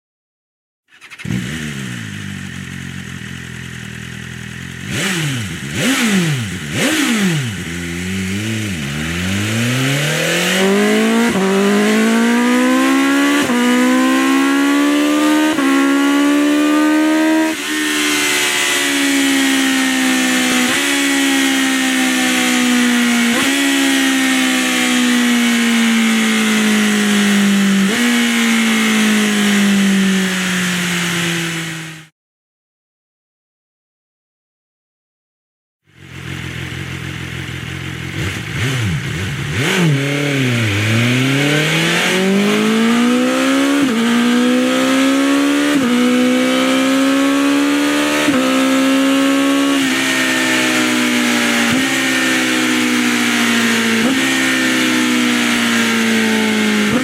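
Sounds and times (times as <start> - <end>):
motorcycle engine revving: 0.9 - 32.1, 35.9 - 57.0.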